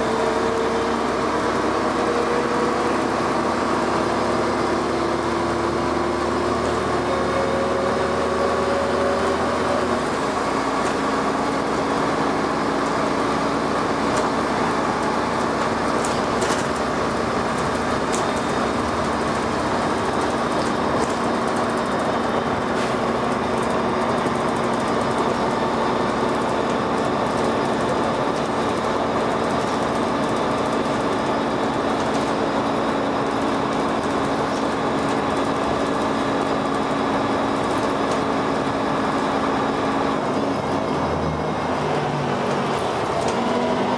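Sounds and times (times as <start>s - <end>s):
bus engine and drivetrain noise: 0.0s - 43.9s.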